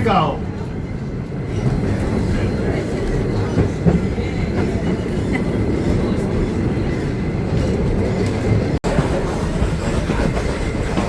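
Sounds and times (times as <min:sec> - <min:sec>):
train wheels on rails: 0:00.4 - 0:11.0.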